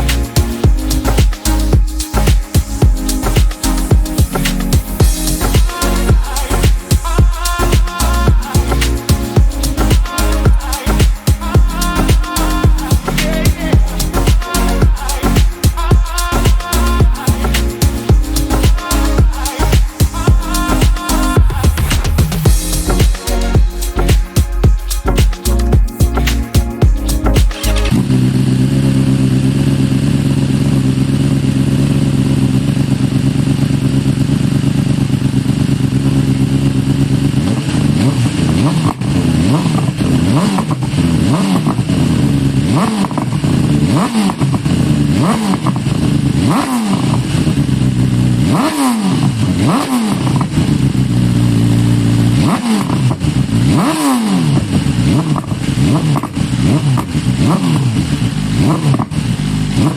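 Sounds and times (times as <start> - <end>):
motorcycle engine idling and revving: 0.0 - 25.0, 26.8 - 59.9.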